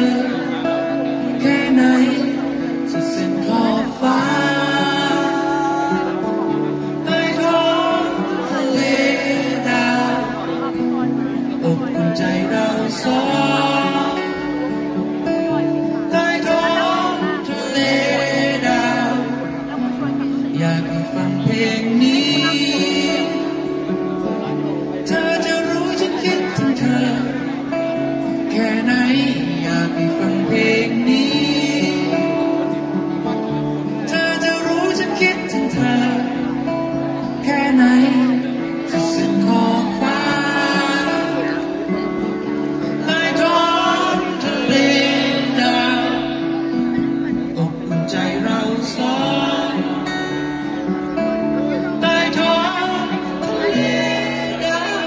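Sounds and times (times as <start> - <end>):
person singing: 0.0 - 55.0
strummed acoustic guitars: 0.0 - 55.0.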